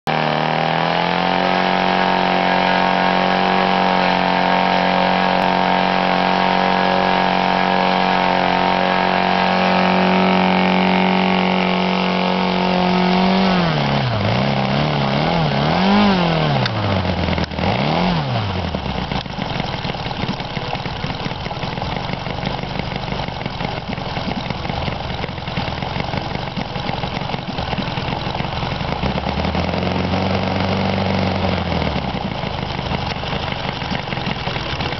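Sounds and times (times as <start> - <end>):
model aircraft engine running: 0.1 - 34.9.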